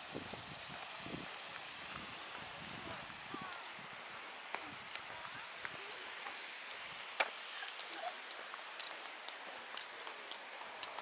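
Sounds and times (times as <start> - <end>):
footsteps on park path: 0.0 - 11.0
faint distant voices: 0.6 - 11.0.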